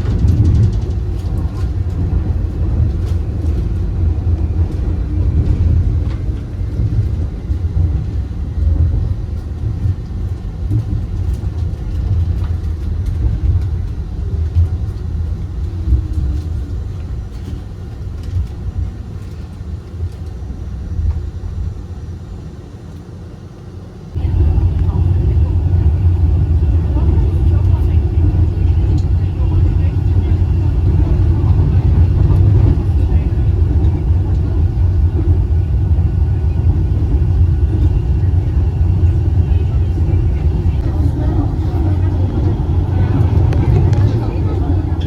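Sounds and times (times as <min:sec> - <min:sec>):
suspension railway car rumbling: 0:00.0 - 0:45.0.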